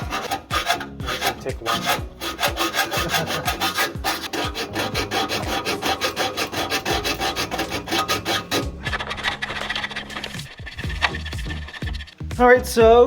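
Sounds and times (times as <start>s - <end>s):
hacksaw rasping through bolts: 0.0s - 12.1s.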